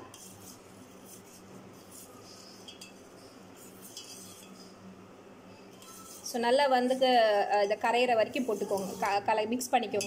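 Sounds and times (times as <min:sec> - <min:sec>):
spoon stirring water in a bowl: 0:00.0 - 0:04.8, 0:05.7 - 0:09.2.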